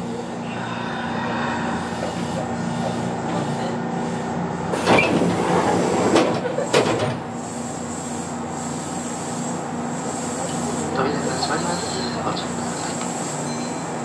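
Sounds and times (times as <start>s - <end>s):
train equipment hum: 0.0s - 14.0s.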